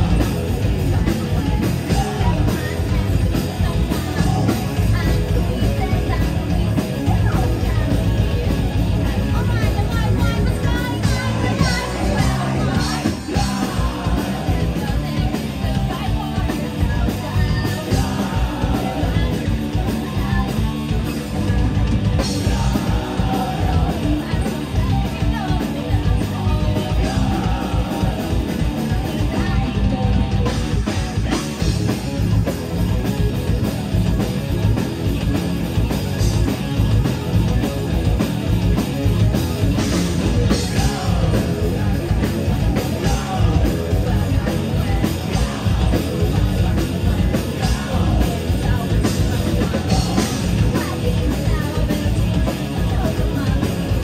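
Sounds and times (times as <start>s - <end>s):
woman singing lead: 0.0s - 33.4s, 37.6s - 54.0s
bass guitar: 0.0s - 54.0s
distorted electric guitars: 0.0s - 54.0s
drum kit: 0.0s - 54.0s.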